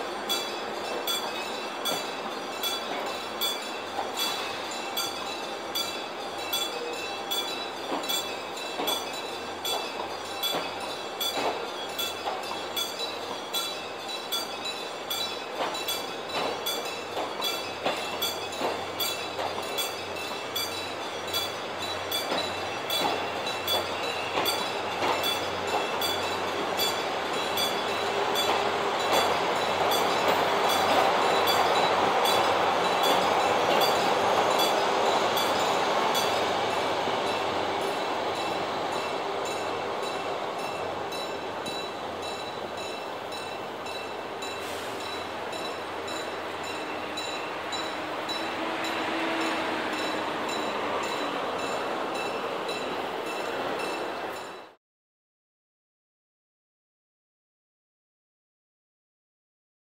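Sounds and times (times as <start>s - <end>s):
train wheels clickety-clack: 0.0s - 54.7s
train rushing rumble: 0.0s - 54.8s.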